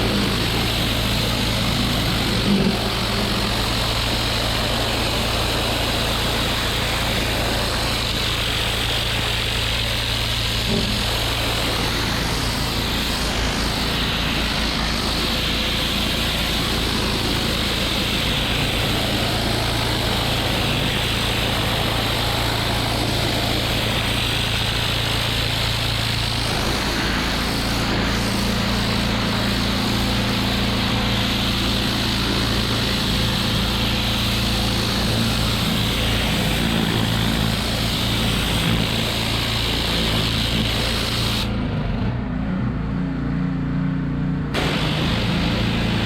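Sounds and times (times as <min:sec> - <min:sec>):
water spray hissing: 0:00.0 - 0:41.6, 0:44.6 - 0:46.0
pressure washer engine running: 0:00.0 - 0:46.0.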